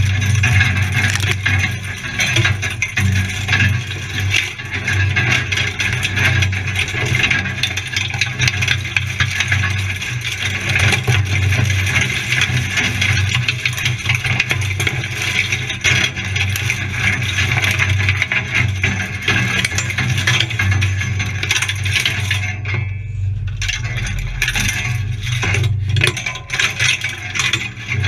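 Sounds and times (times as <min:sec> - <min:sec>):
knocks and rattles: 0:00.0 - 0:28.0.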